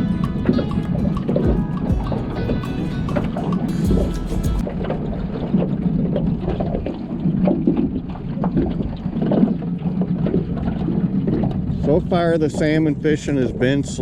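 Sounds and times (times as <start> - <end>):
boat motor humming: 0.0 - 11.9
water splashing against hull: 0.0 - 14.0
wind on microphone: 0.0 - 14.0.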